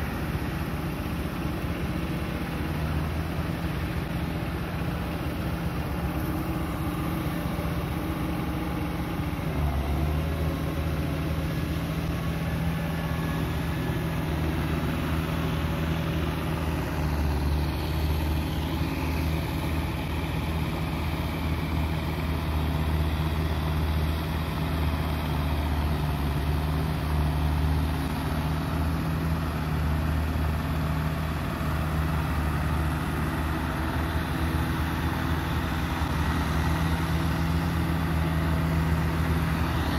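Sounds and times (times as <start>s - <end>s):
diesel tractor engine drone: 0.0s - 39.9s.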